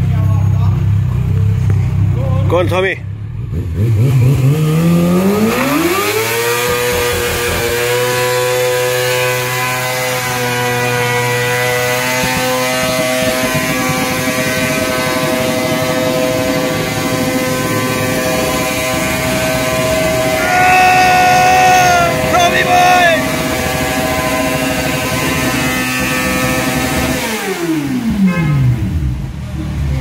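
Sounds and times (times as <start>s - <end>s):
motorcycle engine at high revs: 0.2s - 30.0s.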